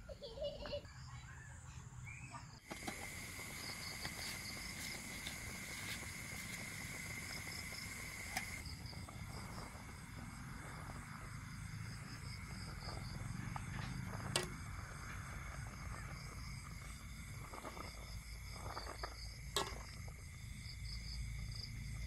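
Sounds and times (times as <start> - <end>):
insects buzzing: 2.1 - 22.0
insect pulsing chirp: 2.2 - 22.0.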